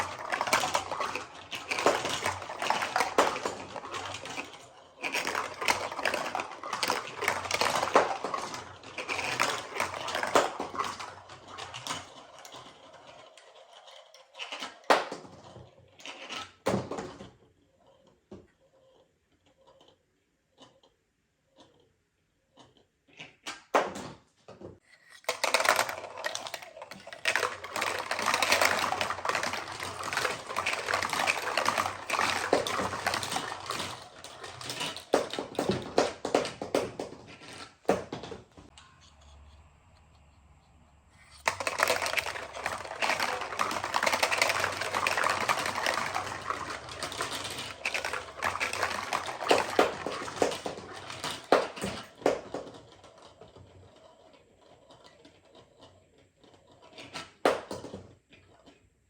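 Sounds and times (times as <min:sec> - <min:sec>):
marbles clattering down a run: 0:00.0 - 0:17.3, 0:25.1 - 0:38.7, 0:41.3 - 0:58.0.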